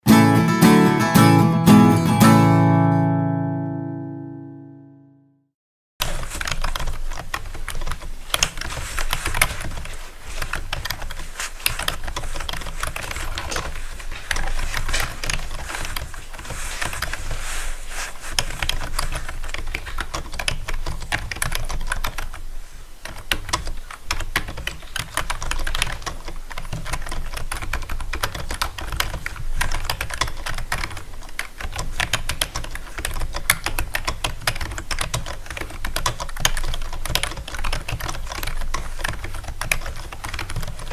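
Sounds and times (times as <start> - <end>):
keyboard typing: 6.0 - 22.4, 23.0 - 40.9.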